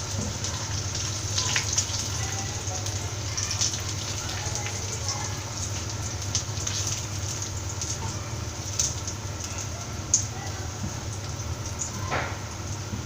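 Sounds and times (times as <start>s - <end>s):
hot oil sizzling in a frying pan: 0.0s - 13.0s.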